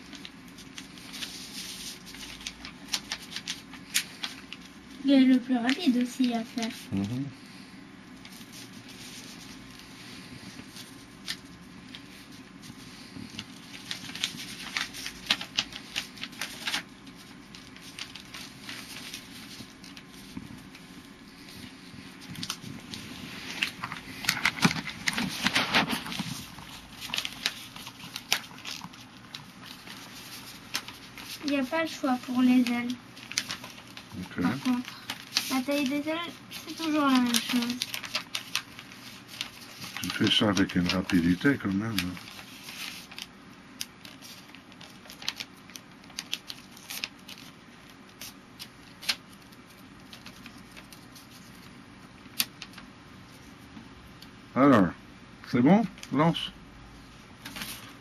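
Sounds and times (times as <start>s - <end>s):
paper being folded and creased: 0.0s - 7.6s, 8.2s - 53.6s, 57.4s - 58.0s.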